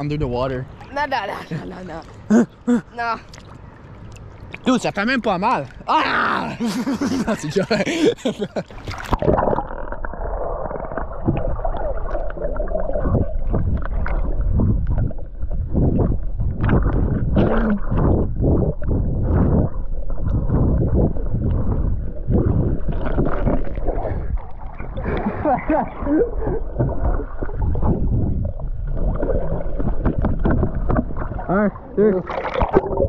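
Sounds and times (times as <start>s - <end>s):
underwater gurgling and rumbling: 3.6s - 33.0s.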